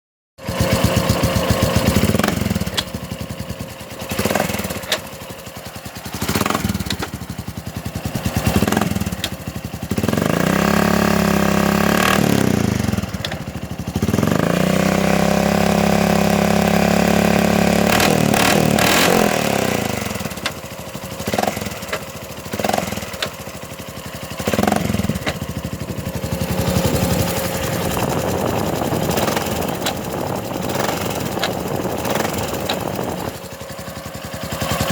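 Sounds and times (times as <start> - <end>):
atv engine revving: 0.4 - 34.9.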